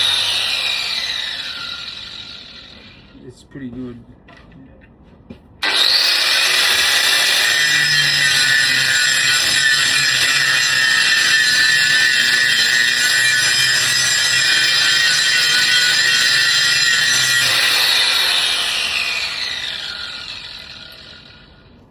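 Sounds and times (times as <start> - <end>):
angle grinder grinding: 0.0 - 3.1, 5.6 - 21.5.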